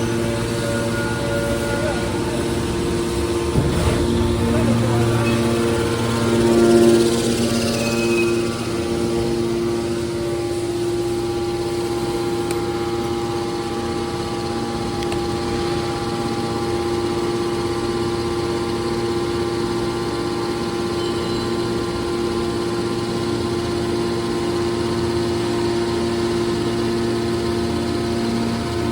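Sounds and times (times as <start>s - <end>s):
hydraulic baler machine drone: 0.0s - 28.9s.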